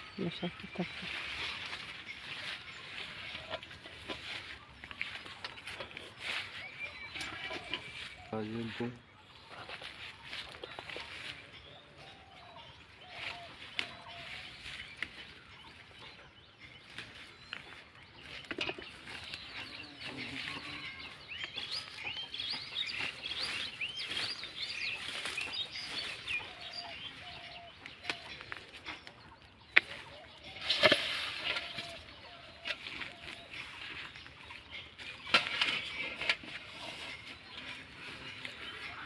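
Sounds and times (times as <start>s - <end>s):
vines and leaves rustling: 0.0s - 16.1s, 16.7s - 39.0s
birds chirping: 0.0s - 39.0s.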